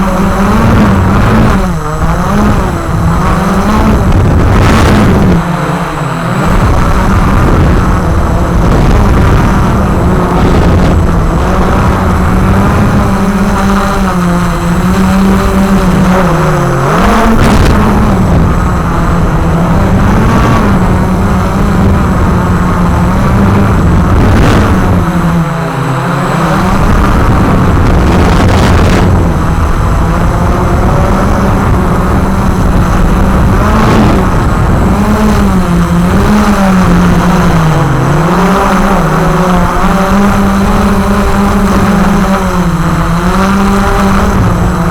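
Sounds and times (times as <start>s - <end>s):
drone propellers buzzing: 0.0s - 44.9s.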